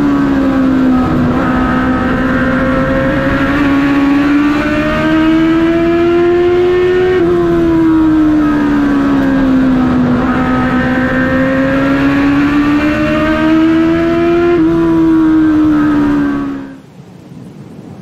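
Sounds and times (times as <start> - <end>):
stock car engine running: 0.0 - 16.8.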